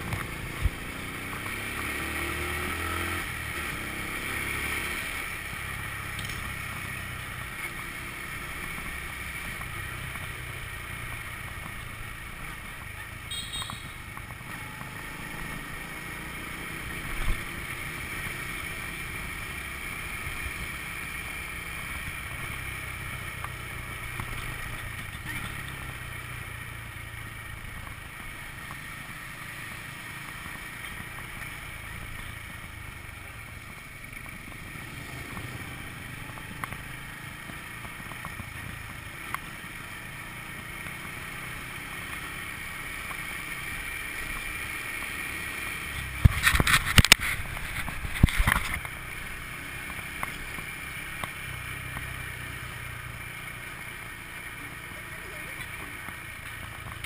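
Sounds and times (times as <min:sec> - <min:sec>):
motor scooter running: 0:00.0 - 0:57.0.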